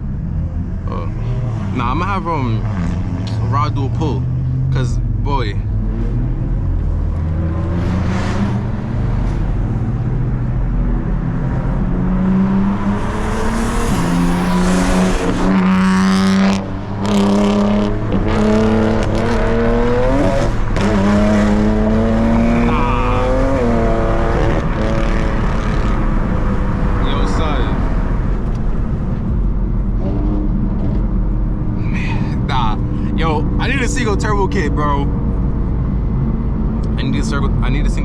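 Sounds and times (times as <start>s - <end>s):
car engine accelerating hard: 0.0s - 38.0s.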